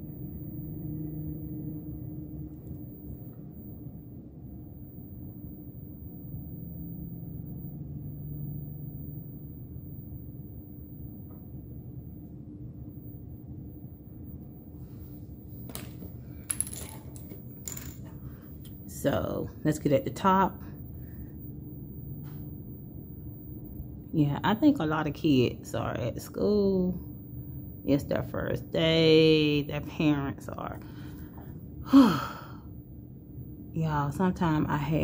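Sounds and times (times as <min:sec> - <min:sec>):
faint two-tone drone: 0:00.0 - 0:35.0
low room hum: 0:00.0 - 0:35.0.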